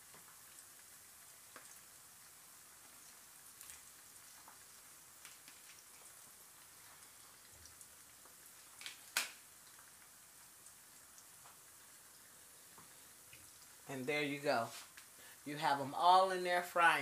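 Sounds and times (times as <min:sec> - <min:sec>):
oil crackling and popping: 0:00.0 - 0:15.4
wontons sizzling in oil: 0:00.0 - 0:17.0.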